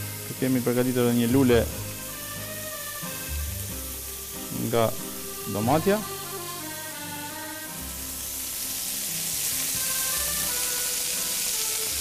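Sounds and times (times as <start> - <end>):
background music with held notes: 0.0 - 12.0
meat sizzling on a grill: 0.0 - 12.0.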